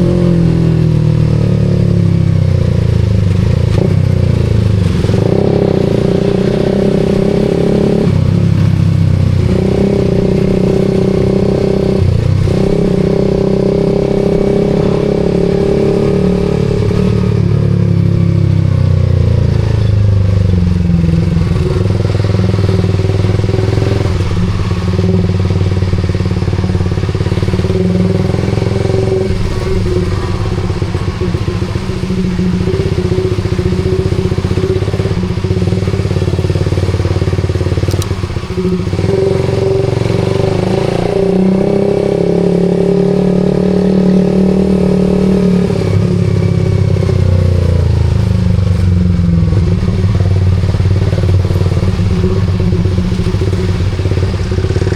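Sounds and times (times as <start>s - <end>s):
motorcycle engine while riding: 0.0s - 54.9s.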